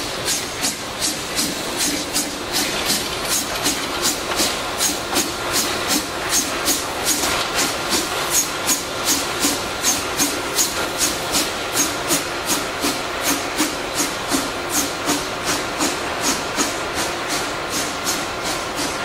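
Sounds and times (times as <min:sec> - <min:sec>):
steam hissing: 0:00.0 - 0:19.0
steam locomotive chuffing: 0:00.0 - 0:19.0.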